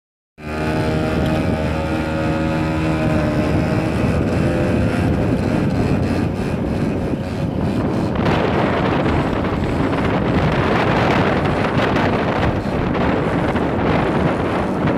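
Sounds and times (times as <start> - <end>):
motorcycle engine running: 0.4 - 14.9
wind noise: 0.4 - 14.9.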